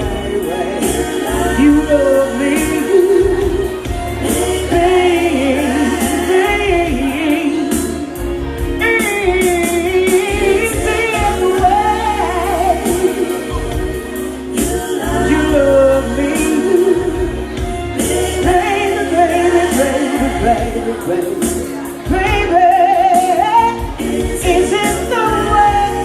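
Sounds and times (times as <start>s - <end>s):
bass line: 0.0s - 26.0s
melodic lead voice: 0.0s - 26.0s.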